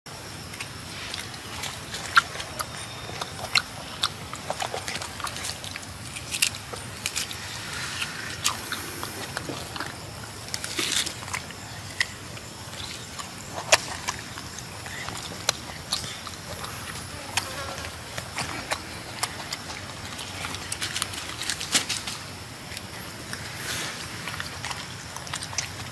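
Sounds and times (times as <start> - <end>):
background hiss: 0.1 - 25.9
monkey chewing and biting fruit: 0.1 - 25.9.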